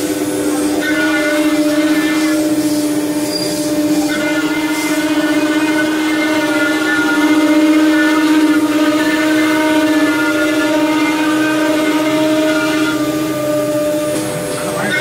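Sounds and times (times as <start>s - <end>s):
router spindle whining: 0.0s - 15.0s
bit cutting wood: 0.7s - 15.0s.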